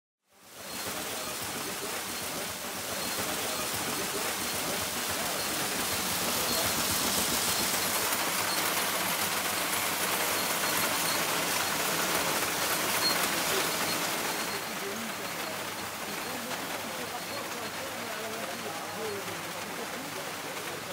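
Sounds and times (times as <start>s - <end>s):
grain hissing in seed sorter: 0.4s - 20.9s.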